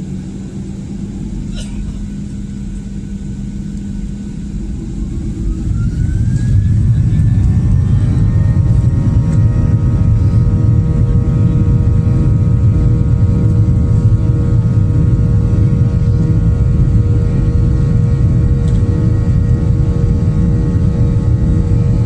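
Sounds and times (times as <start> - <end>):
airliner engine rumble: 0.0 - 22.0
engine whining tones: 0.0 - 22.0.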